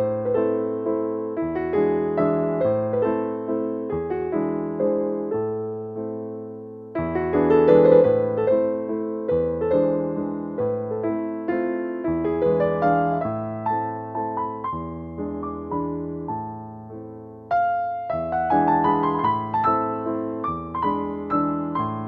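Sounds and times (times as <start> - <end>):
gentle piano piece: 0.0 - 22.0.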